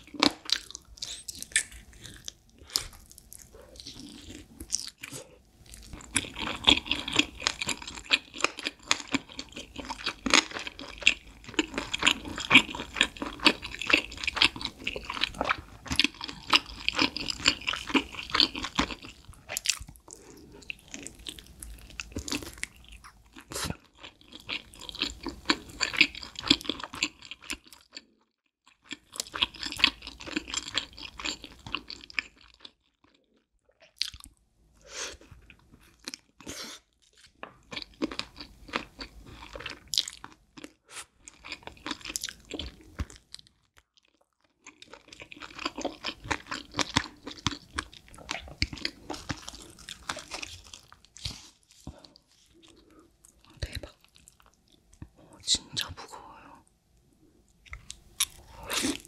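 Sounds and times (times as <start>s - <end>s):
crunching and chewing: 0.0s - 34.4s, 35.1s - 55.8s, 57.5s - 59.0s.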